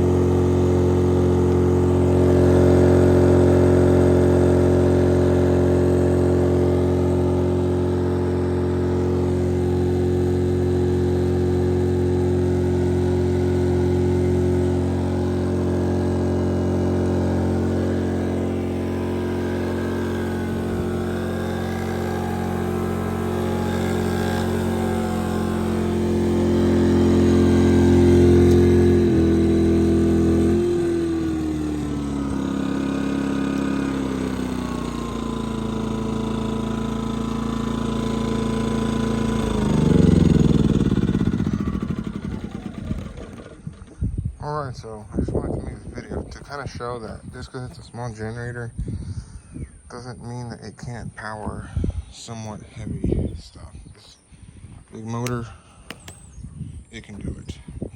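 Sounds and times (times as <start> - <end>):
generator engine running under load: 0.0 - 49.2.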